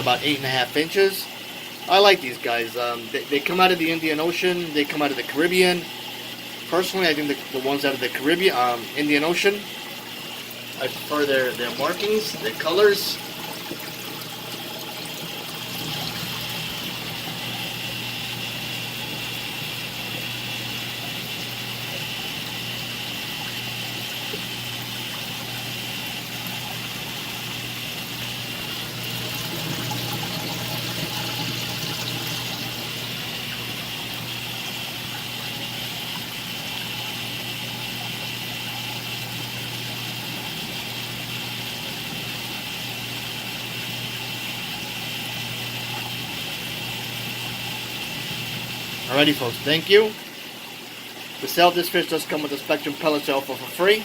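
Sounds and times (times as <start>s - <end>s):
low pump hum: 0.0s - 54.0s
water trickling and splashing: 0.1s - 39.4s, 45.0s - 54.0s.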